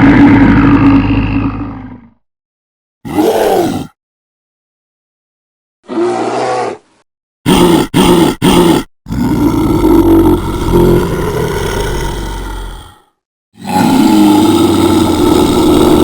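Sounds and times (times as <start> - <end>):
bear growling and roaring: 0.0 - 2.2, 3.1 - 4.0, 5.8 - 16.0.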